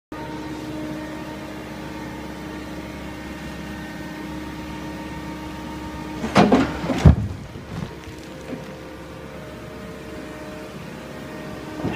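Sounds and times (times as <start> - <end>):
diesel engine idling: 0.2 - 11.9.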